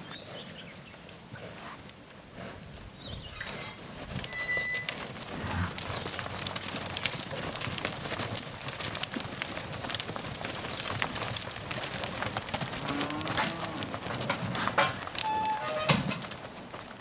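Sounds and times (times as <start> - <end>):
cattle hooves on dirt: 0.0 - 17.0.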